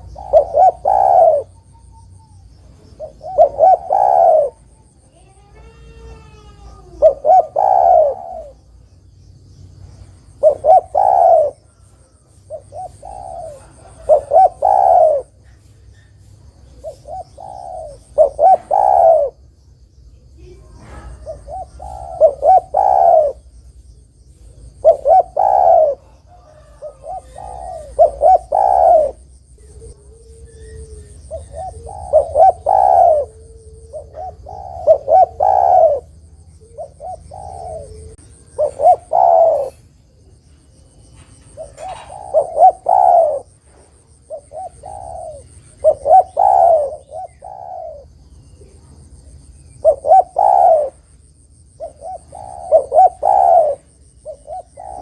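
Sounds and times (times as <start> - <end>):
dove cooing: 0.0 - 8.8, 10.2 - 19.4, 20.4 - 23.6, 24.3 - 55.0.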